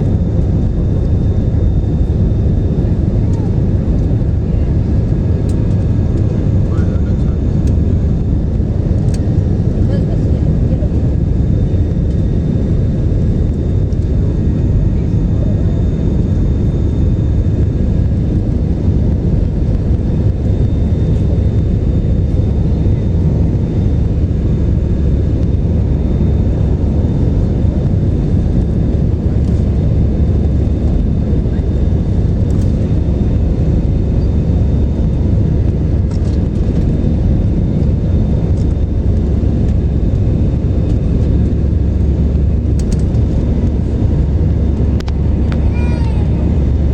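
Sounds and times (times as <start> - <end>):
airplane engine rumble: 0.0 - 46.9.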